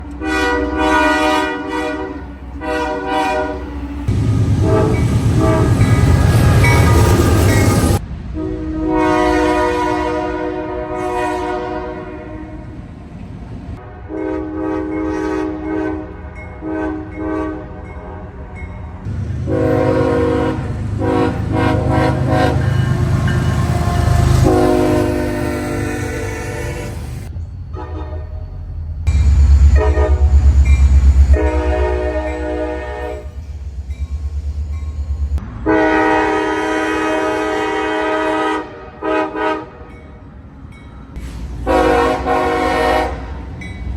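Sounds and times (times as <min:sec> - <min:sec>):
passing train rumble: 0:00.0 - 0:43.9
locomotive air horn blasts: 0:00.1 - 0:12.6, 0:13.8 - 0:18.4, 0:19.1 - 0:28.3, 0:29.3 - 0:33.7, 0:35.6 - 0:39.9, 0:41.6 - 0:43.5.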